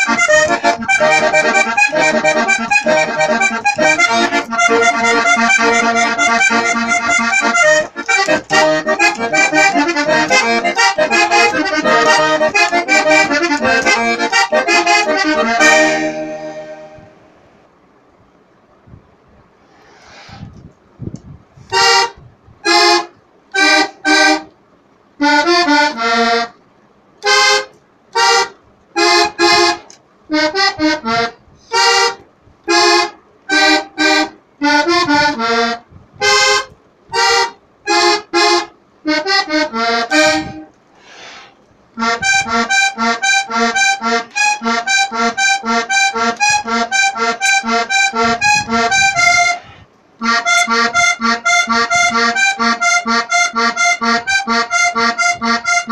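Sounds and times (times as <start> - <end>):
accordion playing: 0.0 - 17.4, 21.6 - 24.6, 25.2 - 26.6, 27.2 - 55.9.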